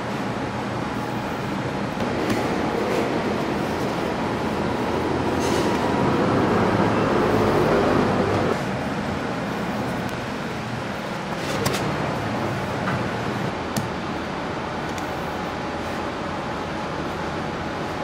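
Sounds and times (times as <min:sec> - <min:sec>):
mechanical rumble with low hum: 0:00.0 - 0:18.0.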